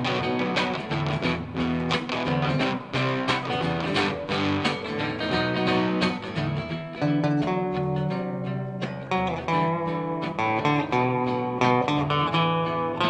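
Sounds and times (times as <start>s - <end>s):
bass guitar: 0.0s - 13.0s
electric guitar: 0.0s - 13.0s
strummed acoustic guitar: 0.0s - 13.0s.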